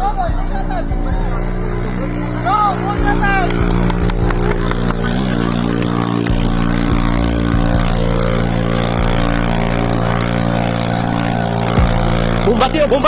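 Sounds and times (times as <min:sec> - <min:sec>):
small motorbike engines droning: 0:00.0 - 0:13.0.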